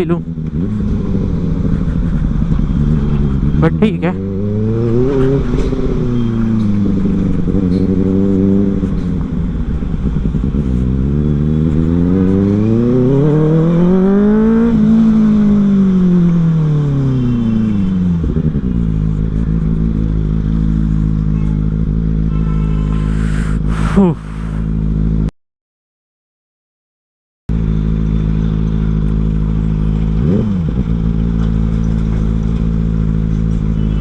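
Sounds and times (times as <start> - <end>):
motorcycle engine revving: 0.0 - 25.2, 27.5 - 34.0.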